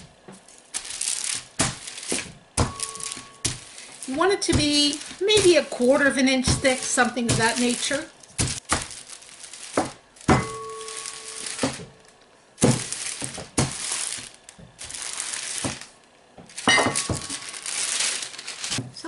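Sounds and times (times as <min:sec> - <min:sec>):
wax paper rustling: 0:00.0 - 0:19.0.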